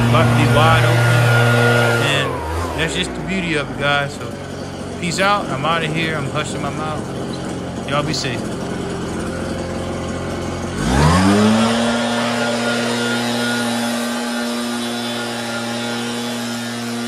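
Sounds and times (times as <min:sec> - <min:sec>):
leaf blower revving: 0:00.0 - 0:17.0.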